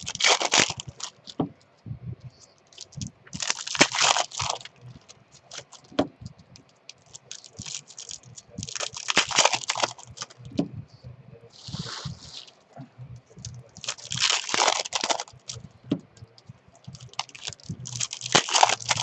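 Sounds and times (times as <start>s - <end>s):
foil wrappers crinkling: 0.0s - 1.5s, 2.4s - 10.6s, 11.6s - 19.0s.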